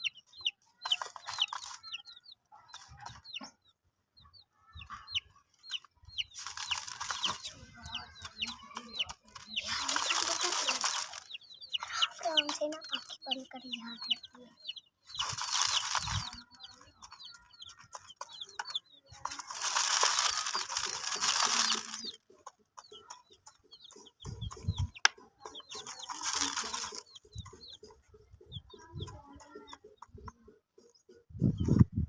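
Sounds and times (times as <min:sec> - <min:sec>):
chicks cheeping: 0:00.0 - 0:32.0.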